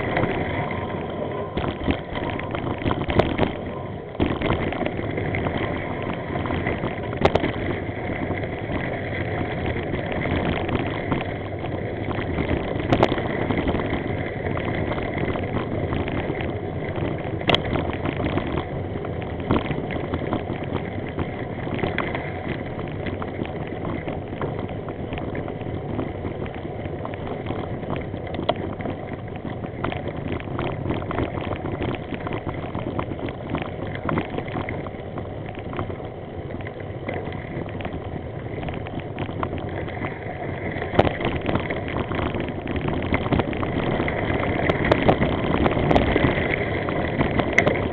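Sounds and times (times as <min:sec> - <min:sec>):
bike tyres rumbling on gravel: 0:00.0 - 0:47.9
small rattles: 0:00.0 - 0:47.9.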